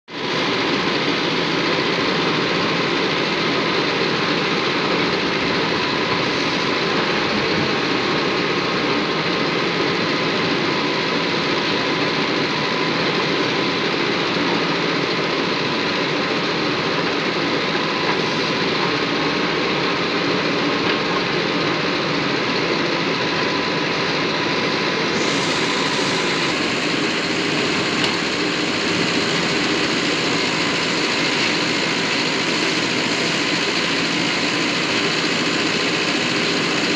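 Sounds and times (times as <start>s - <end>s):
tractor diesel engine running: 0.1s - 36.9s.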